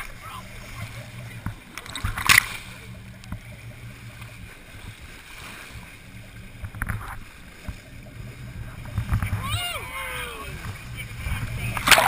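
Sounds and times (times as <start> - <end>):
boat engine running: 0.0 - 12.0
water splashing along hull: 0.0 - 12.0.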